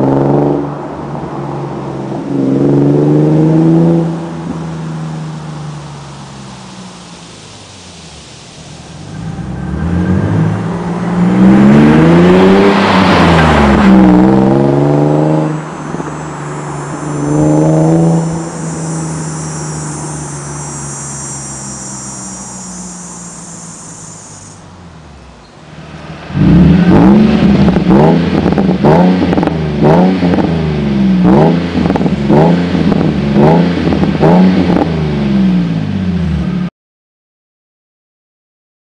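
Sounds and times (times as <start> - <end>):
car exhaust revving: 2.3 - 25.0, 25.7 - 36.6.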